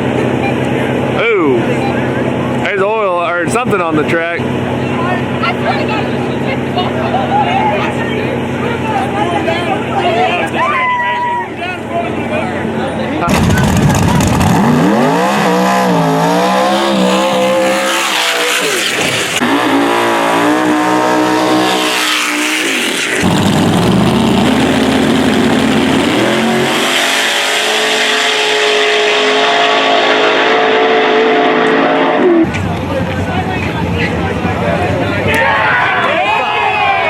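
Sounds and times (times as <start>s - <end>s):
race car engine at full throttle: 0.0s - 37.0s.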